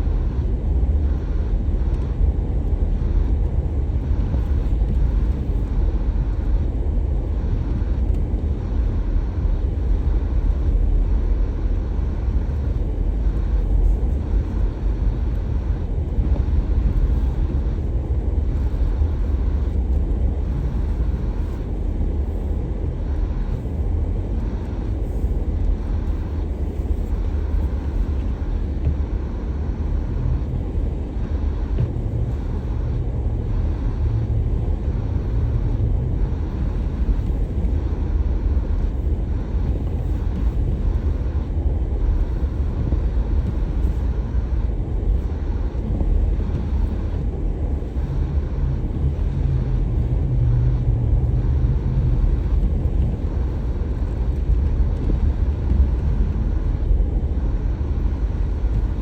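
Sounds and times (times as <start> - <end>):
car engine rumble: 0.0 - 59.0
tyres on road: 0.0 - 59.0.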